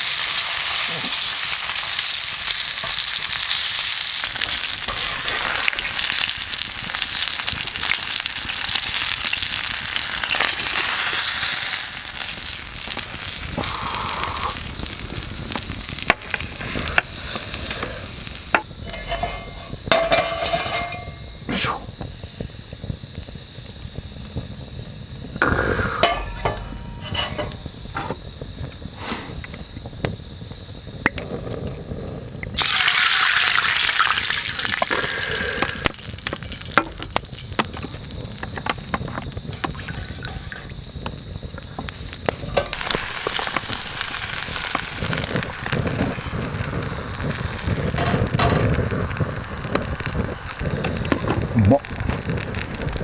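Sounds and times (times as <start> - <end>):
fat sizzling: 0.0 - 53.0
wood fire crackling: 0.0 - 53.0.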